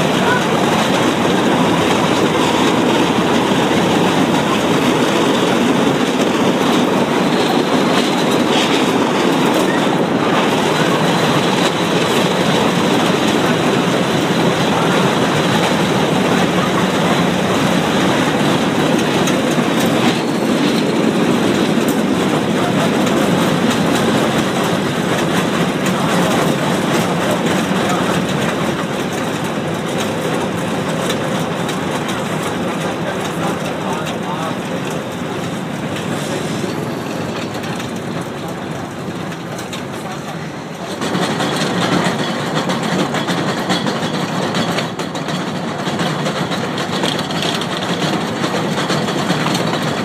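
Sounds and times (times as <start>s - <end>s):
wheels rumbling on rails: 0.0s - 50.0s.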